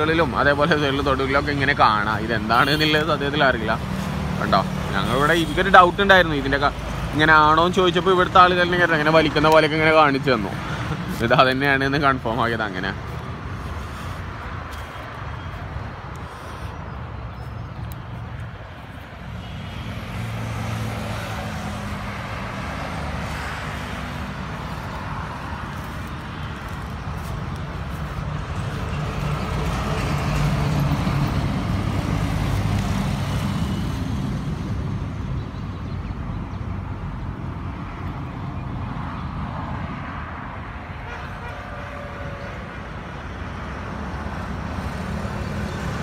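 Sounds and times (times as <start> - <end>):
road traffic: 0.0 - 46.0.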